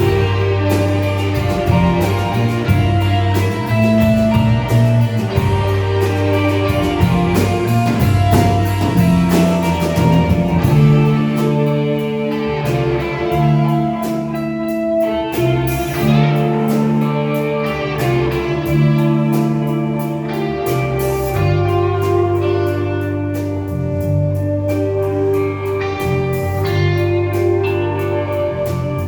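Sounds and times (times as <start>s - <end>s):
guitar-led music with beat: 0.0s - 29.0s.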